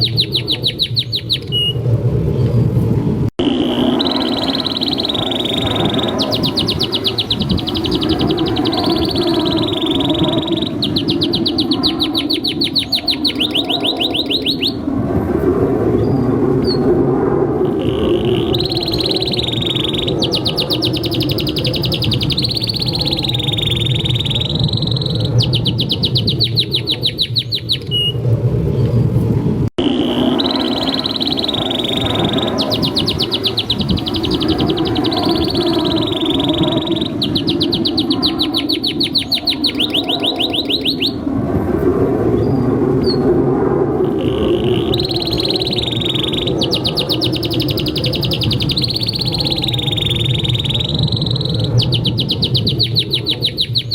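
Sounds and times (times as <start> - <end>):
canary singing: 0.0 - 1.8, 3.4 - 14.8, 17.7 - 28.2, 29.8 - 41.2, 44.1 - 53.9.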